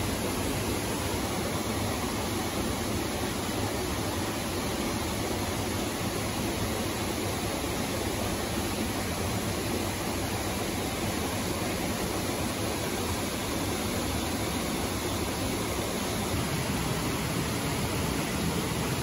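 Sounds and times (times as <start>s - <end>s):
stream water flowing over rocks: 0.0s - 19.0s.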